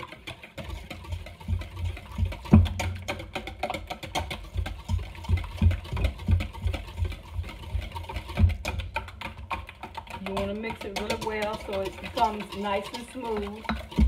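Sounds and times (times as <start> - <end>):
utensil beating in metal bowl: 0.0 - 14.0.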